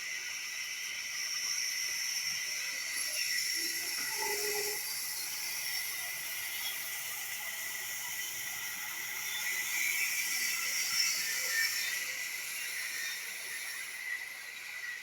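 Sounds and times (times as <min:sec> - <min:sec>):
sawmill saw hissing and whining: 0:00.0 - 0:15.0.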